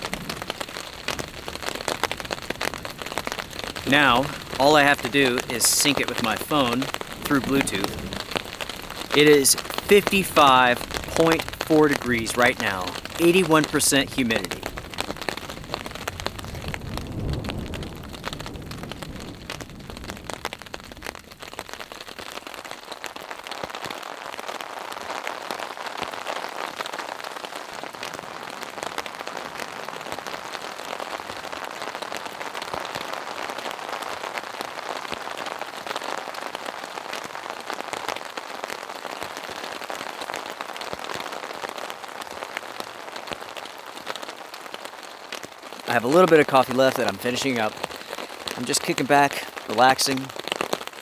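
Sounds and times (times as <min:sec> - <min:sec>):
rain pattering on a tarp: 0:00.0 - 0:51.0.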